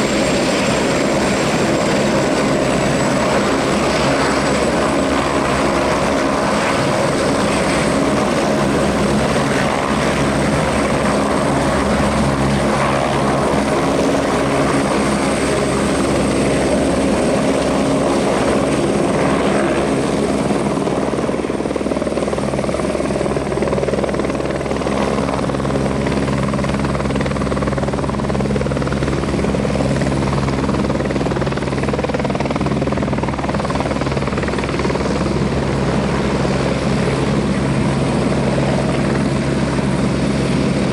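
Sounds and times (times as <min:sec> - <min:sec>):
helicopter rotor beat: 0:00.0 - 0:40.9.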